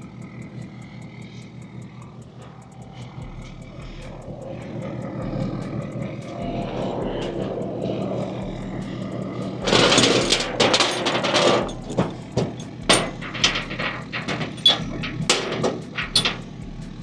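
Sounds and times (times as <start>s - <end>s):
motor vehicle engine droning: 0.0s - 17.0s.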